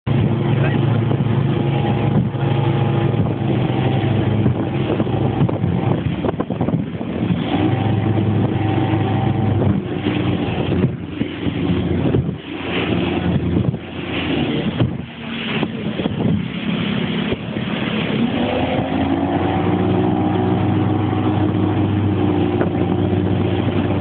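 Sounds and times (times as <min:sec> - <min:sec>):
boat engine droning: 0:00.0 - 0:24.0
water noise: 0:00.0 - 0:24.0
wind rush: 0:00.0 - 0:24.0.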